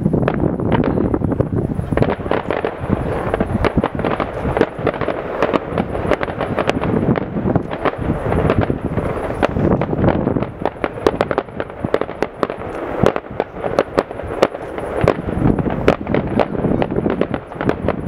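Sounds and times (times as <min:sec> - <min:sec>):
fireworks banging and crackling: 0:00.0 - 0:18.0.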